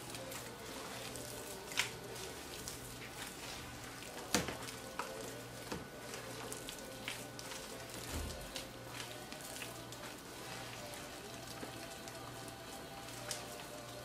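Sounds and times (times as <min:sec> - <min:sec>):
dough squishing and patting: 0:00.0 - 0:14.0.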